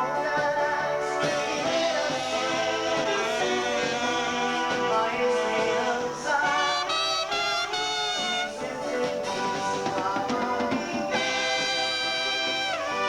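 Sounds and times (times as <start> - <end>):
live dance band playing: 0.0 - 13.0
person singing: 0.0 - 13.0.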